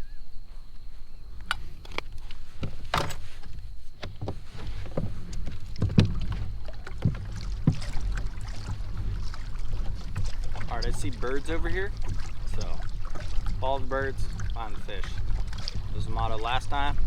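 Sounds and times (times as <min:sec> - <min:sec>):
low rumble of kayak: 0:00.0 - 0:17.0
knocks against hull: 0:02.6 - 0:17.0.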